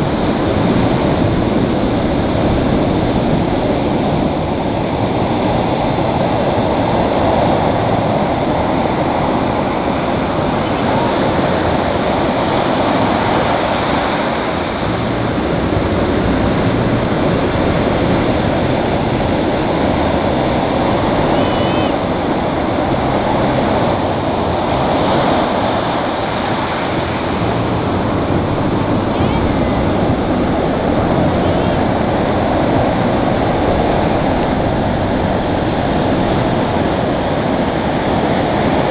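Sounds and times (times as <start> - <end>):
ocean surf breaking on beach: 0.0 - 38.9.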